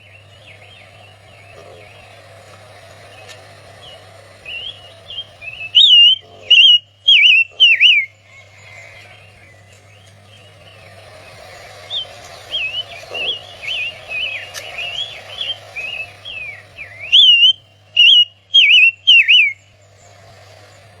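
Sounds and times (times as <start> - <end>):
songbird warbling: 0.0 - 21.0.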